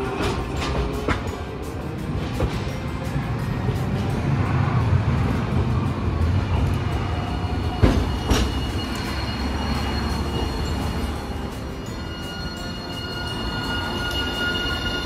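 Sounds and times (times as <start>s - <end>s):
tram rumbling: 0.0s - 15.0s
tram wheels clacking on rails: 0.0s - 15.0s.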